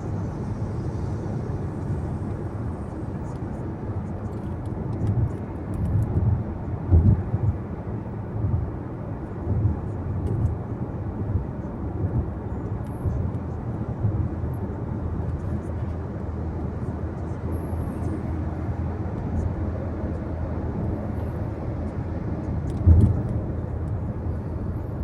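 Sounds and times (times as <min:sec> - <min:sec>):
road and tyre rumble: 0:00.0 - 0:25.0.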